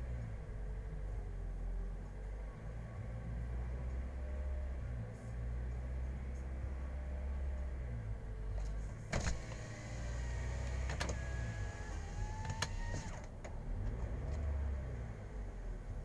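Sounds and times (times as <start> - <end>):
car engine rumble from inside cabin: 0.0 - 16.0.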